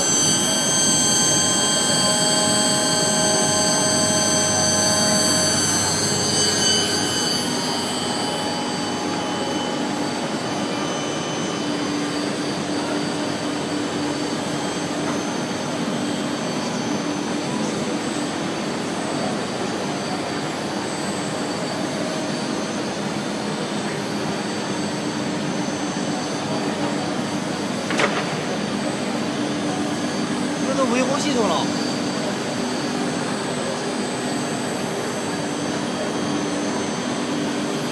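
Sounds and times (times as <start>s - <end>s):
wood router spindle whine: 0.0s - 37.9s.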